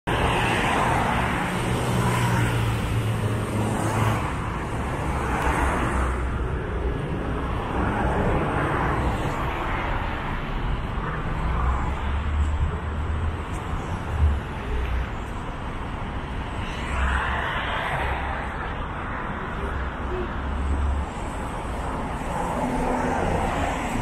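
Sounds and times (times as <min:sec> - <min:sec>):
road traffic passing: 0:00.1 - 0:24.0.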